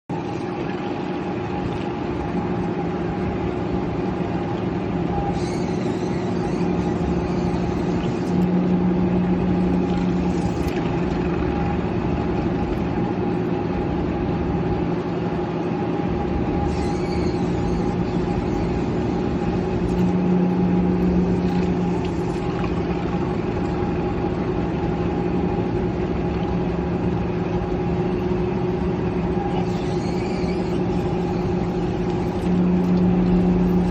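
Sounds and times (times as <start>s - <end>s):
machinery humming: 0.1s - 33.9s.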